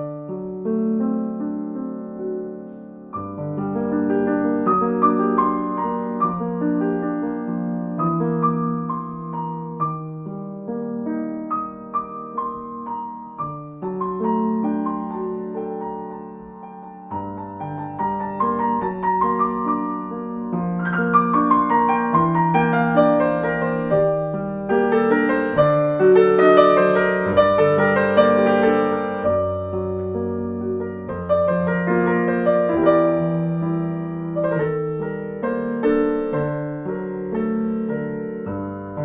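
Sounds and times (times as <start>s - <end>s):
slow calm solo piano: 0.0s - 39.0s.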